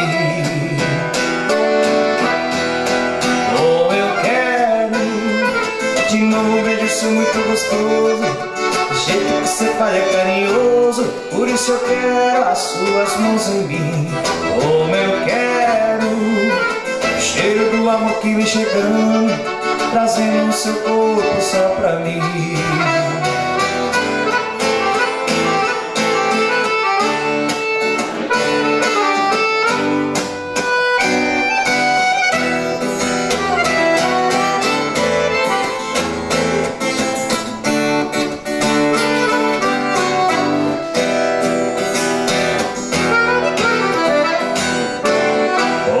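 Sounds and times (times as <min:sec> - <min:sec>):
accordion notes: 0:00.0 - 0:46.0
guitar strumming: 0:00.0 - 0:46.0.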